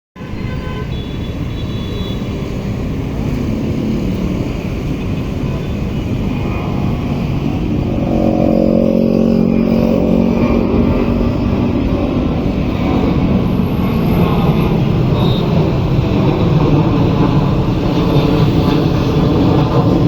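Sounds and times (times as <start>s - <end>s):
jet engines roaring: 0.2s - 20.0s.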